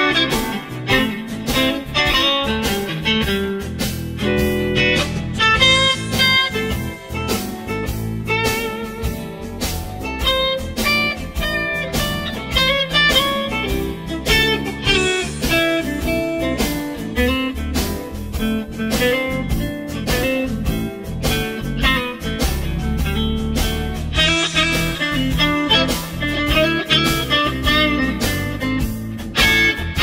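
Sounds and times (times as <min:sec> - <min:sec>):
blues guitar with steady beat: 0:00.0 - 0:30.0.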